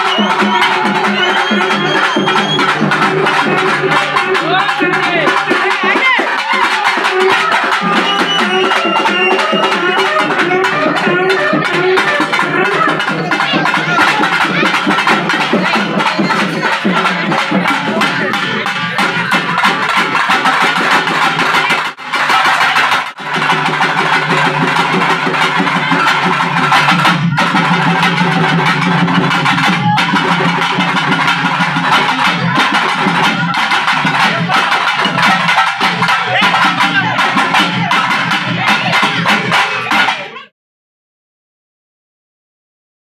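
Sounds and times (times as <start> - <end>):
folk drums beaten with sticks: 0.0 - 40.5.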